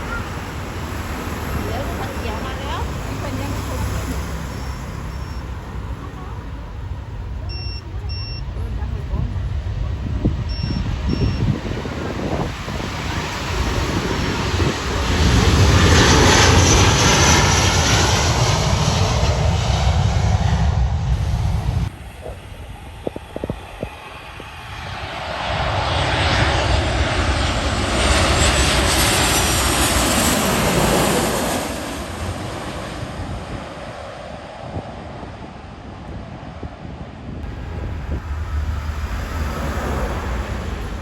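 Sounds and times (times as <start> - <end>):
aircraft engines passing overhead: 0.0 - 41.0.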